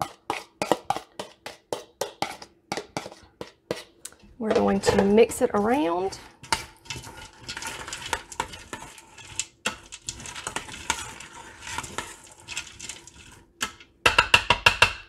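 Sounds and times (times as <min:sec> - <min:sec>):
metal utensil scraping a pot: 0:00.0 - 0:13.9.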